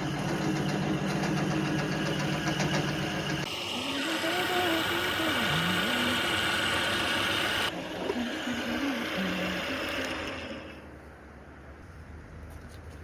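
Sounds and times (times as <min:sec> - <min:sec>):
machine running: 0:00.0 - 0:10.8.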